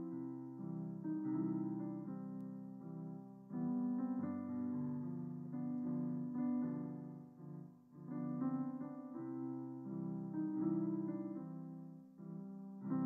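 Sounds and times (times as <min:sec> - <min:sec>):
hymn played on piano: 0:00.0 - 0:13.0.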